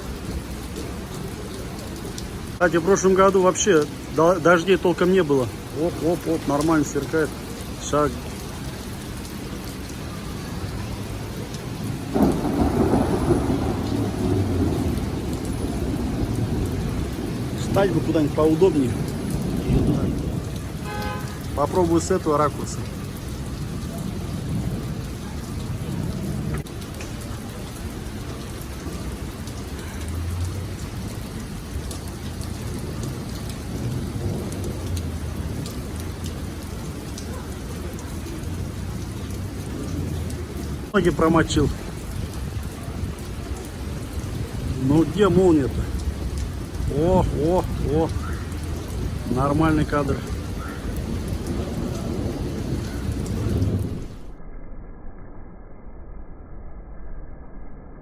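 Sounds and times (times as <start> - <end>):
heavy rain falling: 0.0 - 54.4
thunderclap and rumble: 0.0 - 58.0.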